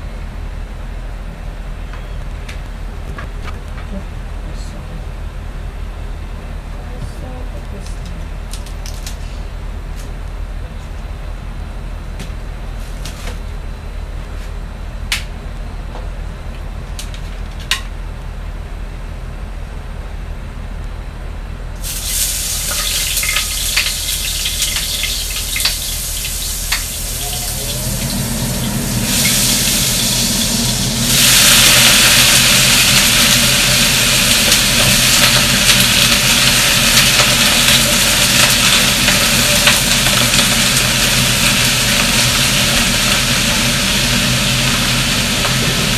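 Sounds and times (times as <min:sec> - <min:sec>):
range hood fan hissing: 0:00.0 - 0:45.9.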